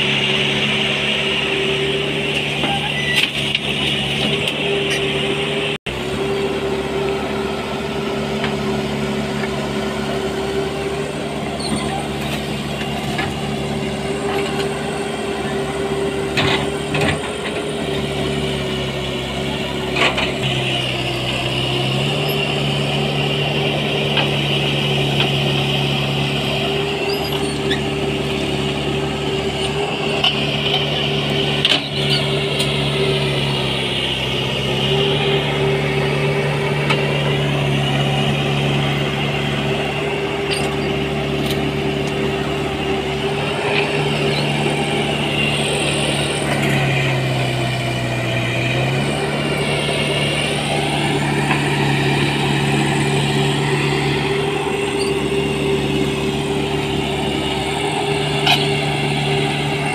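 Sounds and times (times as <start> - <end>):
excavator diesel engine running: 0.0 - 59.9
hydraulic whine: 0.0 - 59.9.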